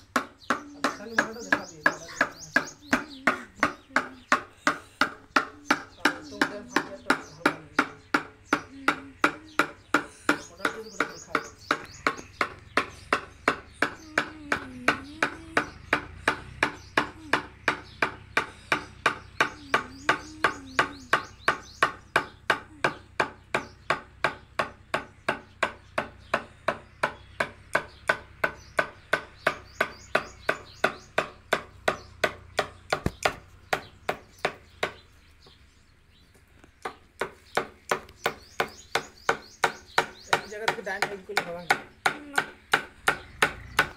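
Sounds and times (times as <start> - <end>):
hammer striking chisel into wood: 0.1 - 35.0, 36.8 - 43.9.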